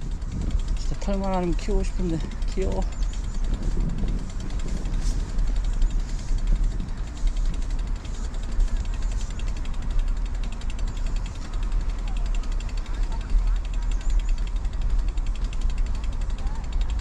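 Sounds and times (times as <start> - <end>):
bicycle tyre road noise: 0.0 - 17.0
wind buffeting microphone: 0.0 - 17.0.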